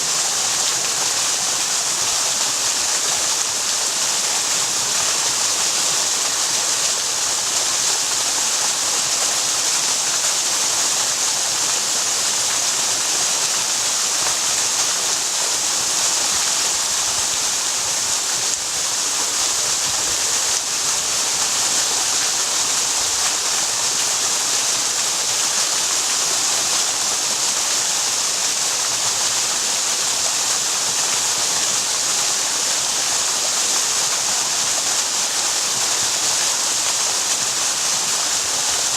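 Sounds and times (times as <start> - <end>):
waterfall splashing: 0.0 - 38.9.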